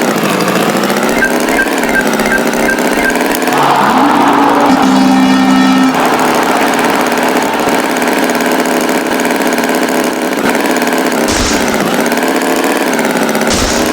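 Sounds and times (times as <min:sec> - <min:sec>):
tractor engine idling: 0:00.0 - 0:13.9.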